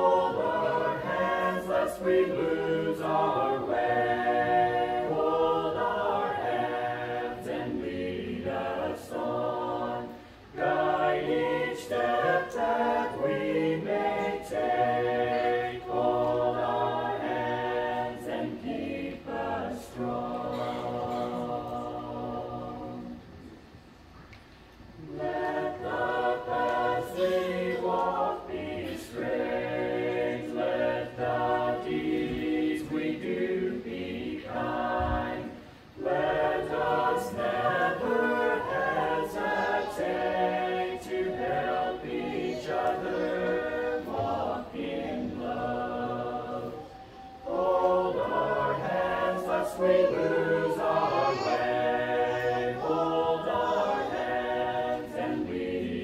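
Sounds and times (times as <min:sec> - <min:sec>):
mixed choir singing a cappella: 0:00.0 - 0:23.9, 0:24.8 - 0:56.0.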